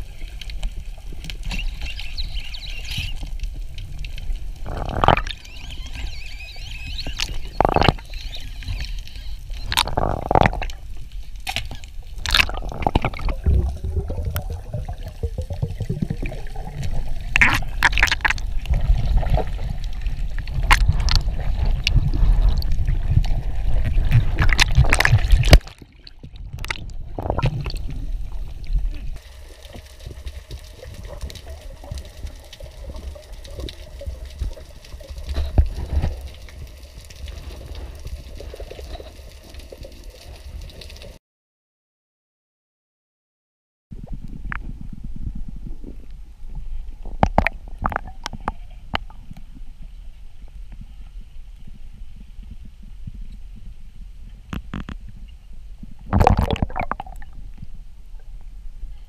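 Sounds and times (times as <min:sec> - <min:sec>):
underwater water rumble: 0:00.0 - 0:41.2, 0:44.0 - 0:59.0.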